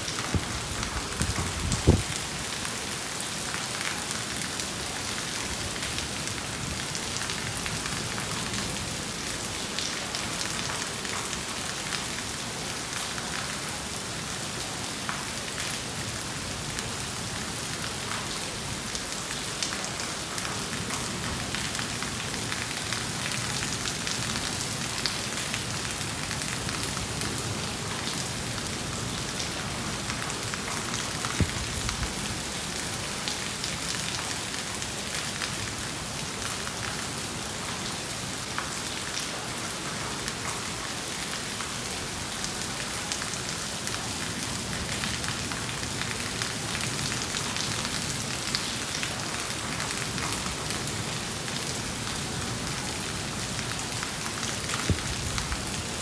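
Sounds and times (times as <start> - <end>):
heavy rain on leaves and roof: 0.0 - 56.0.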